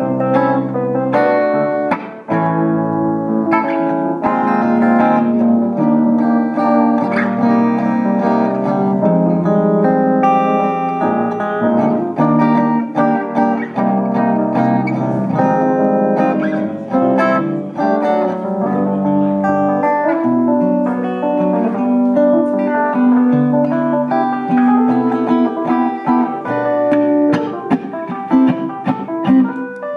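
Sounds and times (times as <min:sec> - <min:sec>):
live band with plucked guitar: 0:00.0 - 0:29.9.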